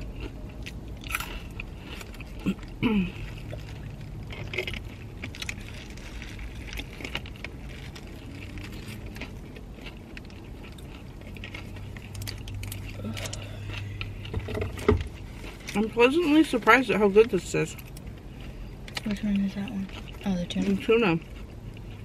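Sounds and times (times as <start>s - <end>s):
low steady hum: 0.0s - 22.0s
person chewing: 0.0s - 22.0s.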